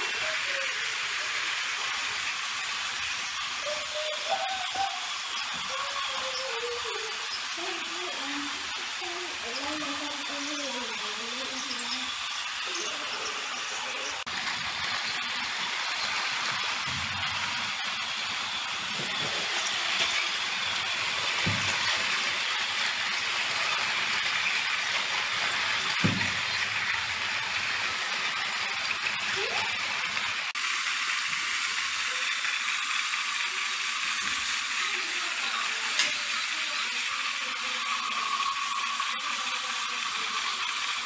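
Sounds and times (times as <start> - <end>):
toy train motors whirring: 0.0 - 41.0.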